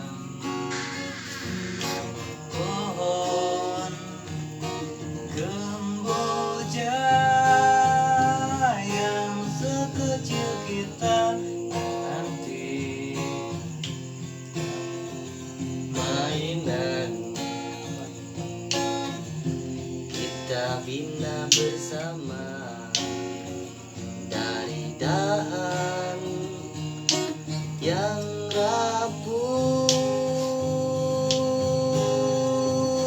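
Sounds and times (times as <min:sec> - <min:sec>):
acoustic guitar strummed: 0:00.0 - 0:33.0.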